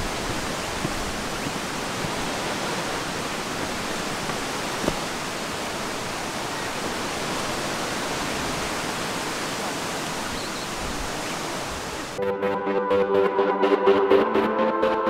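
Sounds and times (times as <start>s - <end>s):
steady rushing noise: 0.0s - 12.2s.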